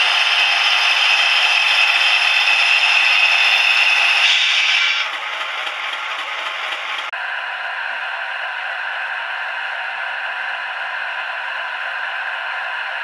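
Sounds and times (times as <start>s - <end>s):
model locomotive running: 0.0s - 13.0s.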